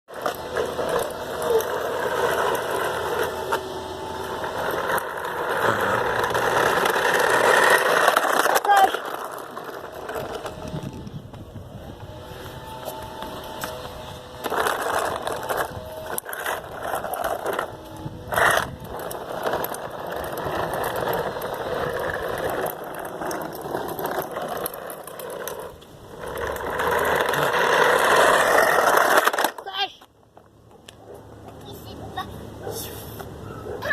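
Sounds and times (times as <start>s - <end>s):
plastic toy wheels rolling on concrete: 0.1s - 33.9s.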